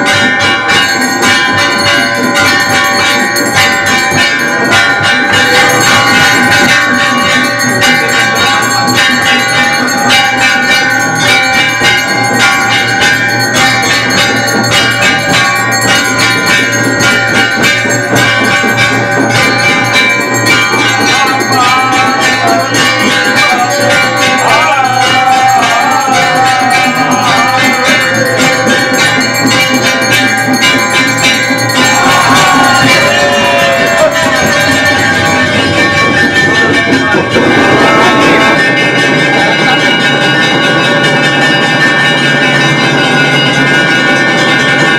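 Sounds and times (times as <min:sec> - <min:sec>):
metal temple bells ringing: 0:00.0 - 0:44.9.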